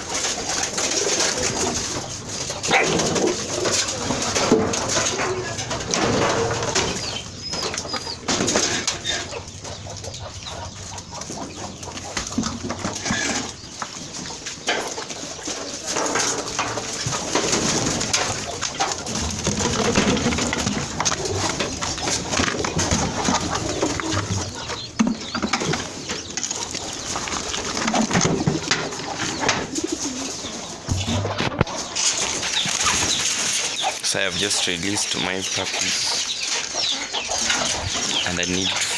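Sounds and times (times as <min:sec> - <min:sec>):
birds cooing: 0:00.0 - 0:38.9
birds moving clicks and rustles: 0:00.0 - 0:38.9.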